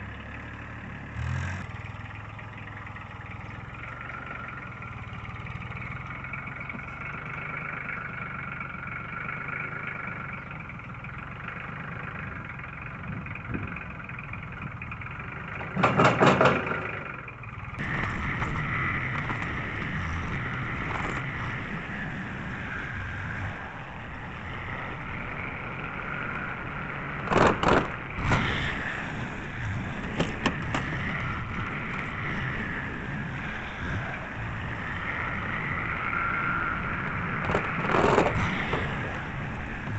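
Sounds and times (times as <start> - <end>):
tractor engine whining: 0.0 - 39.9.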